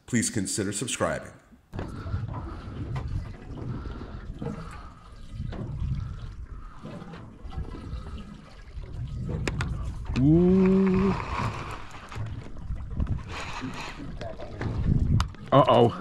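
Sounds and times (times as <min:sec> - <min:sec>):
water lapping against boat: 0:01.7 - 0:16.0.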